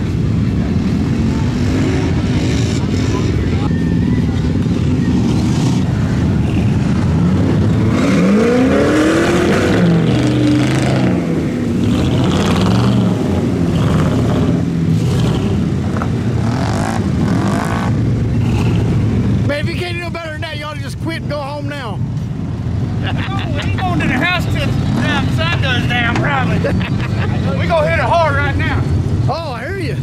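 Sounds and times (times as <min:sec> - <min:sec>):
off-road vehicle engines revving: 0:00.0 - 0:30.0.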